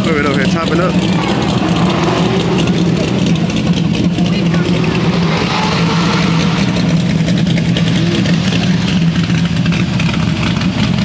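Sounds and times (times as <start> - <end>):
car engine idling choppily: 0.0 - 11.0.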